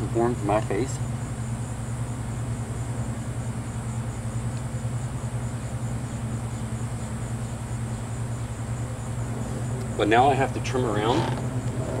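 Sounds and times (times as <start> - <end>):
faint high whine: 0.0 - 12.0
low mechanical hum: 0.0 - 12.0.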